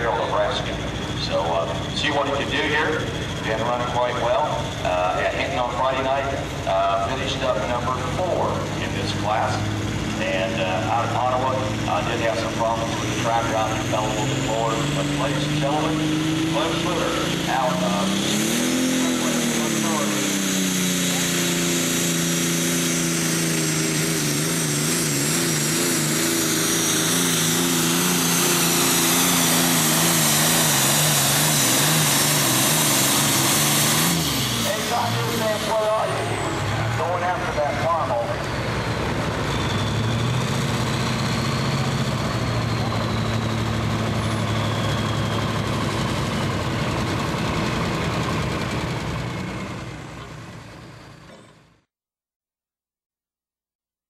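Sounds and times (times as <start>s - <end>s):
diesel tractor engine under load: 0.0s - 51.9s.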